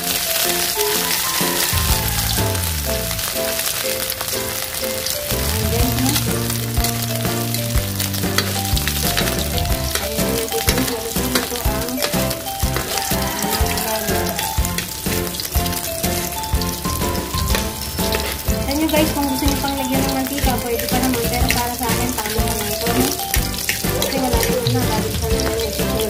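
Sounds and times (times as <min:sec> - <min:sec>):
food sizzling in hot oil: 0:00.0 - 0:26.0
background music with bass: 0:01.5 - 0:26.0.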